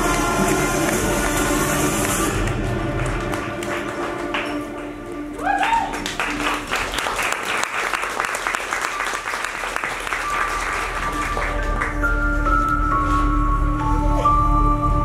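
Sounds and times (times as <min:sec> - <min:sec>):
audience clapping: 0:00.0 - 0:12.6
performance music: 0:00.0 - 0:15.0.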